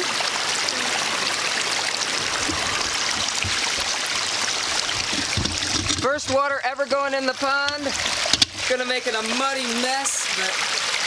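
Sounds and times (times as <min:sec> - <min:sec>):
waterfall splashing into pond: 0:00.0 - 0:11.0.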